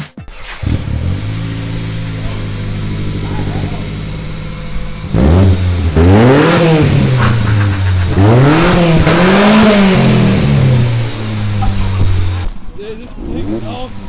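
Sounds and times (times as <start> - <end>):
car engine revving: 0.3 - 14.0.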